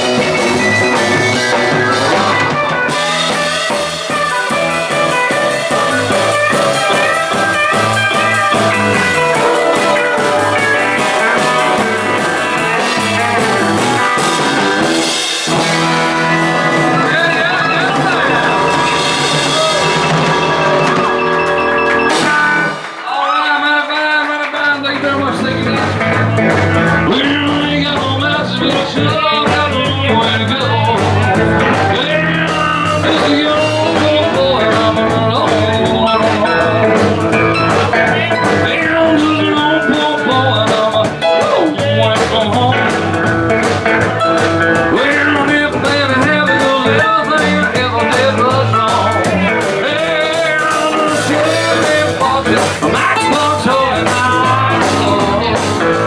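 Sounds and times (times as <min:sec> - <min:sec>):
person singing: 0:00.0 - 0:14.2, 0:15.0 - 0:56.0
guitar: 0:00.0 - 0:56.0.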